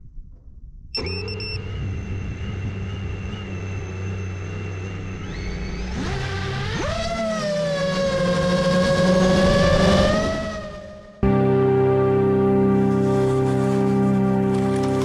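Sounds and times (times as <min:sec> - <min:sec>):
drone propellers whining: 0:01.0 - 0:11.5, 0:12.3 - 0:15.0.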